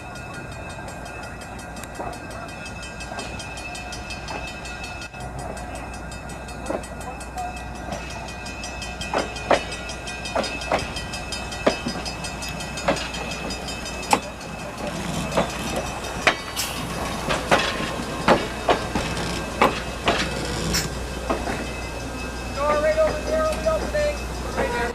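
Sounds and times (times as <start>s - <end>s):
train rumbling: 0.0s - 24.9s
train wheels knocking and clacking: 0.0s - 24.9s.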